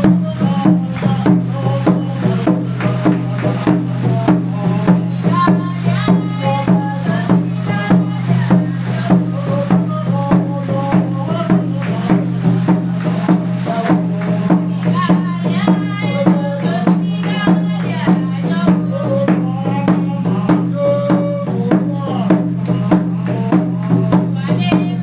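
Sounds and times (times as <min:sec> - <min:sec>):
percussive beat: 0:00.0 - 0:25.0
shakers: 0:00.0 - 0:25.0.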